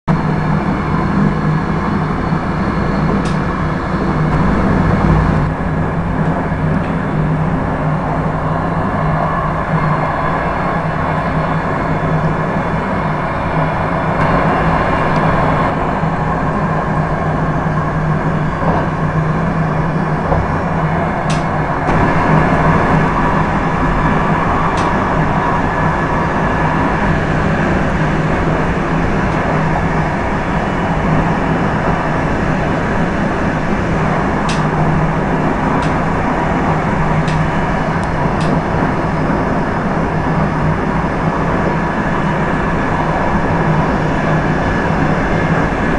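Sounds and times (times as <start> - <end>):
low hum: 0.1 - 45.9
train wheels rumbling on rails: 0.1 - 45.9.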